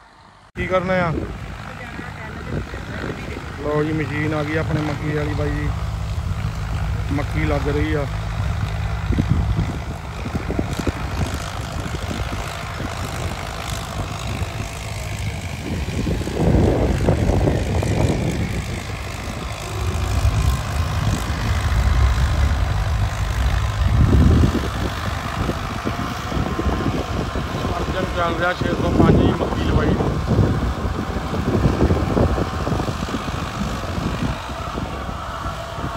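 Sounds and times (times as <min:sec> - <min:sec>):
tractor diesel engine rumbling: 0:00.0 - 0:35.9.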